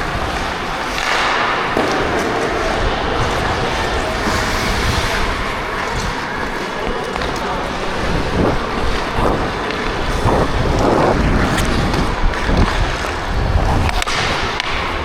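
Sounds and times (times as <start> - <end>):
faint voices: 0.0 - 15.0
wind noise on microphone: 1.7 - 15.0.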